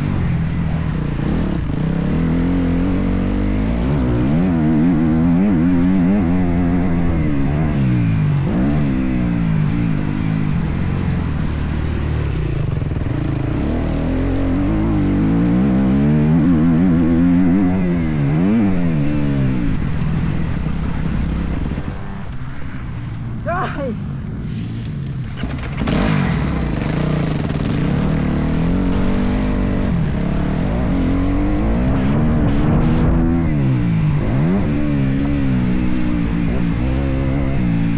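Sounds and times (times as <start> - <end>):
motocross bike engine revving: 0.0 - 21.7, 24.3 - 37.9.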